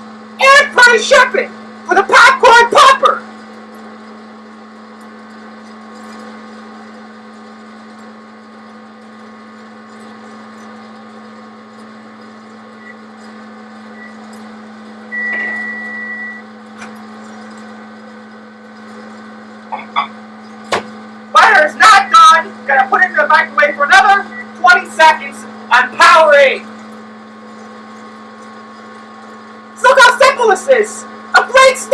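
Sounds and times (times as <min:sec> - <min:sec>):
microwave oven long beep: 0:00.0 - 0:31.9
popcorn popper humming: 0:00.0 - 0:31.9.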